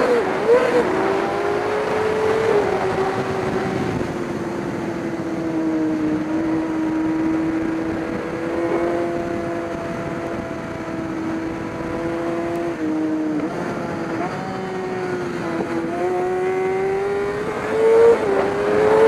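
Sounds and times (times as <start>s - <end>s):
race engine running: 0.0s - 19.0s.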